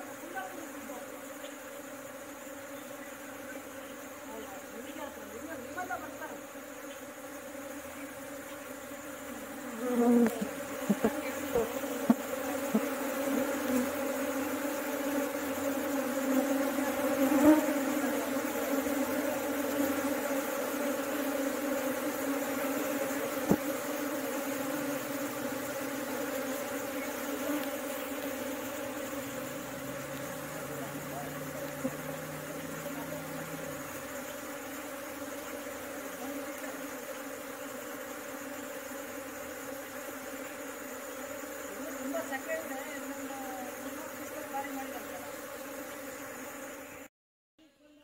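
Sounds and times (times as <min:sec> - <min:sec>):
bees buzzing: 0:00.0 - 0:48.0.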